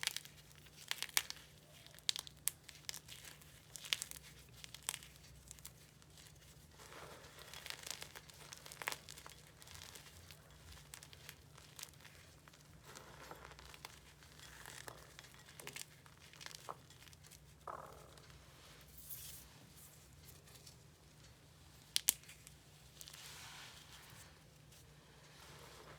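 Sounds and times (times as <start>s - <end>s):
chalk crackling and crumbling: 0.0s - 25.9s.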